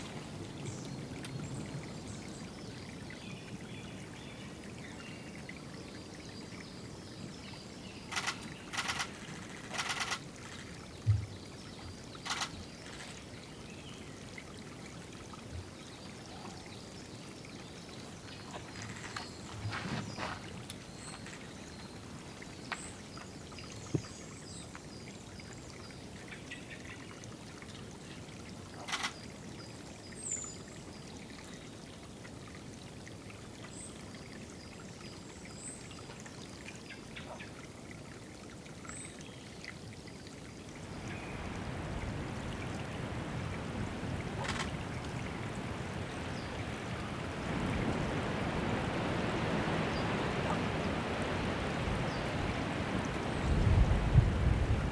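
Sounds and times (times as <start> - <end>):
water trickling: 0.0 - 54.9.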